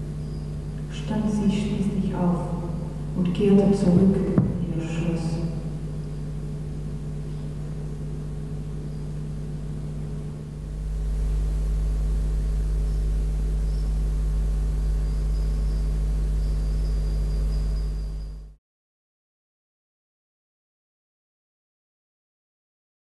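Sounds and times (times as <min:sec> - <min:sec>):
low hum and deep rumble: 0:00.0 - 0:18.6.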